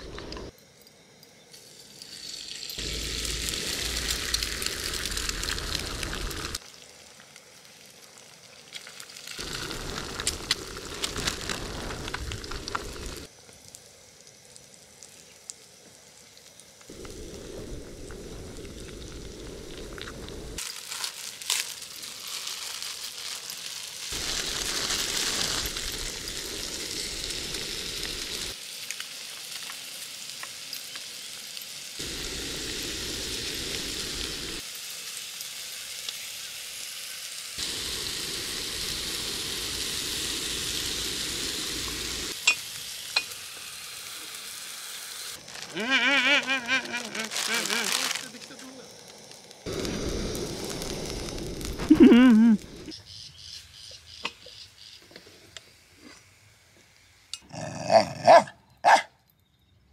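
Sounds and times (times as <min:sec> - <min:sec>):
food sizzling: 0:00.0 - 0:58.3.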